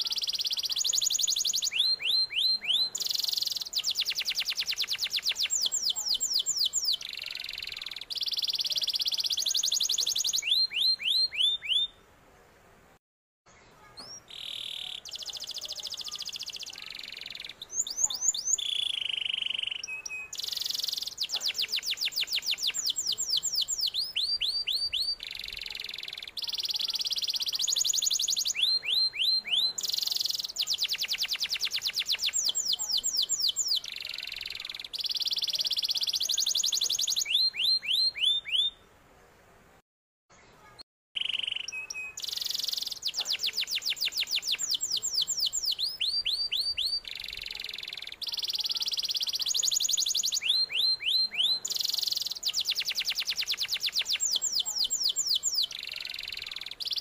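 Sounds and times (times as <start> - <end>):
canary singing trills: 0.0 - 12.0, 13.8 - 38.8, 40.6 - 57.0.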